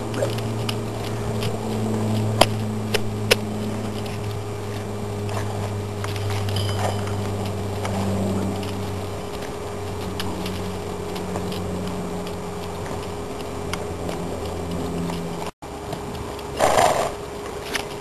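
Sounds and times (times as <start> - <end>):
hoofbeats on loose dirt: 0.0 - 18.0
steady low hum: 0.0 - 18.0
scattered ticks: 0.1 - 18.0.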